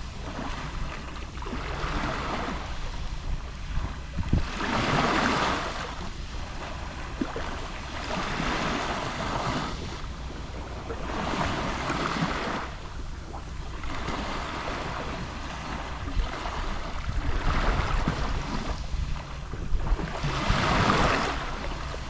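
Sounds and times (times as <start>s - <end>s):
low rumble: 0.0s - 22.0s
waves lapping on shore: 0.0s - 22.0s.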